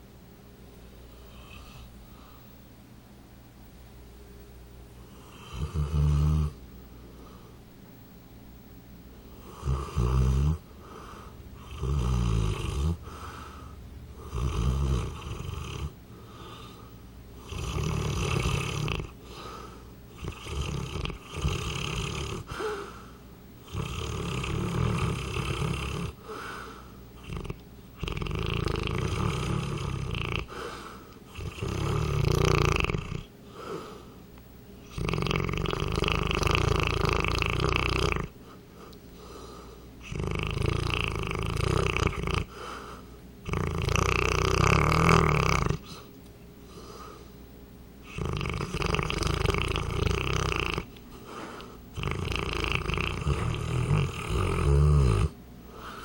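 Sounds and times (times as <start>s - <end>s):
dog snoring: 1.1s - 2.3s, 5.0s - 6.6s, 9.3s - 34.0s, 34.8s - 46.1s, 48.0s - 56.0s.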